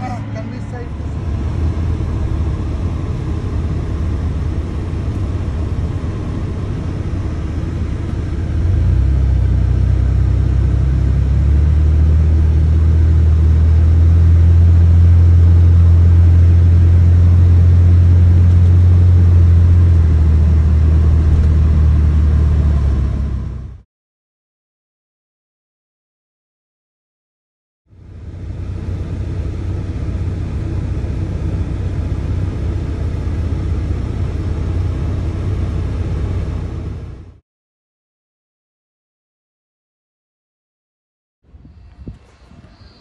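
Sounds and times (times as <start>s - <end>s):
car driving rumble from inside: 0.0s - 23.8s, 28.0s - 37.4s, 41.5s - 43.0s.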